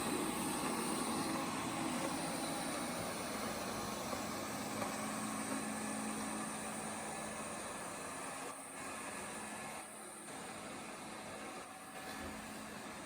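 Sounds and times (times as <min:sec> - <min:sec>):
robot vacuum cleaner whirring: 0:00.0 - 0:13.0.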